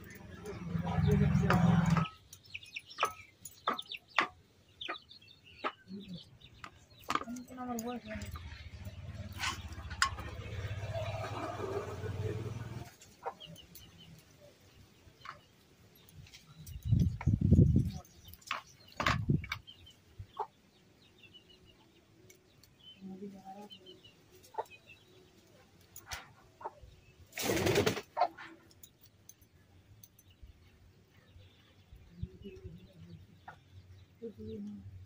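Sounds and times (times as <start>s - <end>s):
birds chirping faintly: 0.0s - 35.0s.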